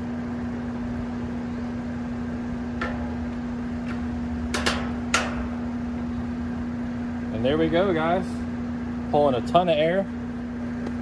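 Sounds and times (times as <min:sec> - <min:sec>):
condenser fan humming: 0:00.0 - 0:11.0.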